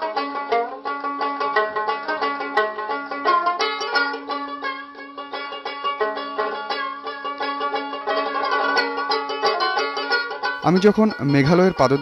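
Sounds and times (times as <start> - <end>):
plucked string instrument: 0.0 - 12.0.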